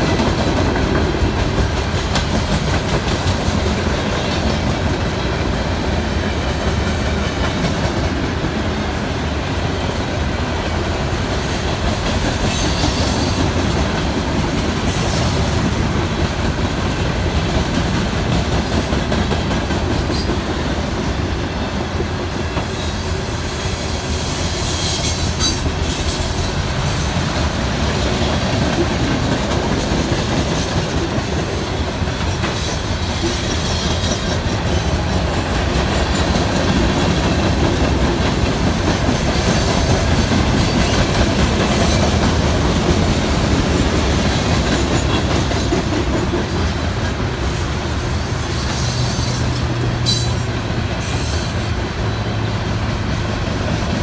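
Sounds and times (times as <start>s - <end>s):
clickety-clack over rail joints: 0.0s - 54.0s
freight train wheels rumbling: 0.0s - 54.0s.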